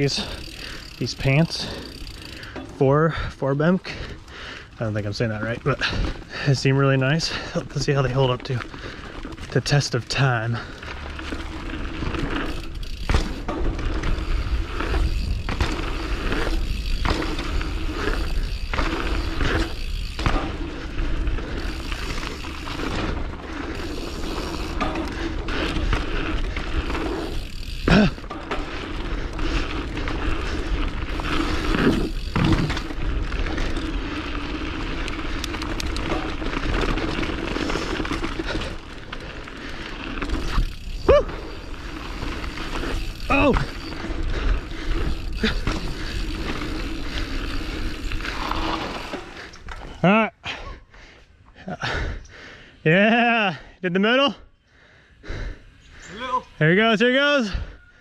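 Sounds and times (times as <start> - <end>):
bike rattling over bumps: 0.0 - 50.1
bike tyre rumble on dirt: 0.0 - 50.6.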